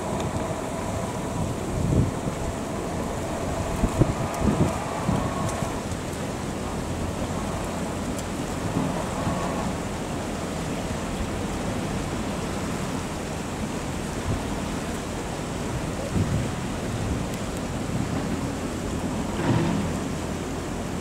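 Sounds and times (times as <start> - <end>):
wind buffeting microphone: 0.0 - 20.3.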